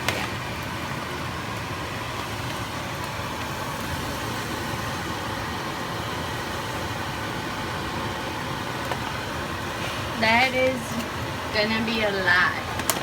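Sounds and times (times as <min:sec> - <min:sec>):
steady background noise with hum: 0:00.0 - 0:13.0.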